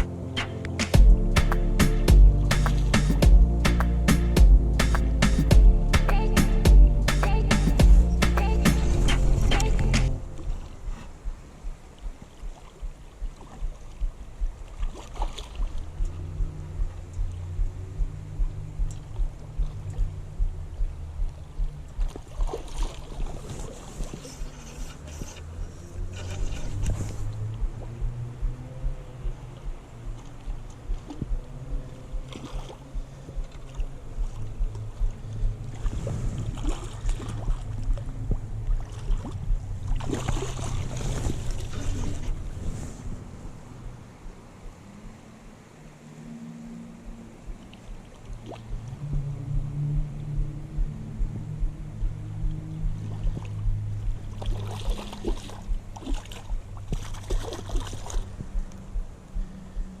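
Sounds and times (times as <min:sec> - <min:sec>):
steady low rumble: 0:00.0 - 0:45.8, 0:46.9 - 1:00.0
water splashing: 0:00.0 - 0:59.7.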